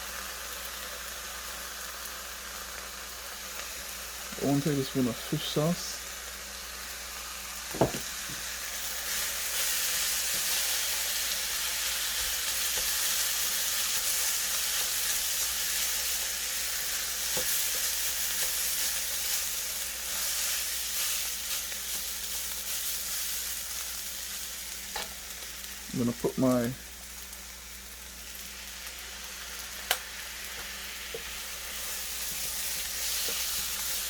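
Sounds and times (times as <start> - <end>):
rice sizzling in hot oil: 0.0 - 34.0.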